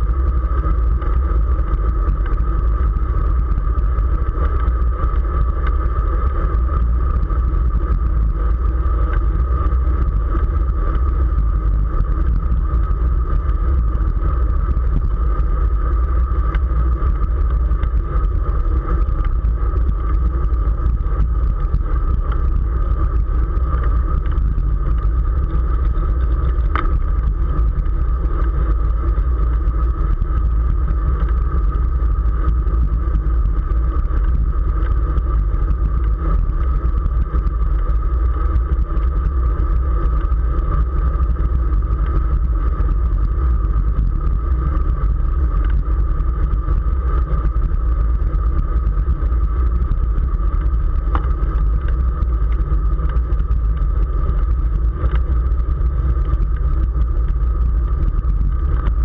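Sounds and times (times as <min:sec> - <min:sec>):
steady hum: 0:00.0 - 0:59.0
wind rushing over microphone: 0:00.0 - 0:59.0.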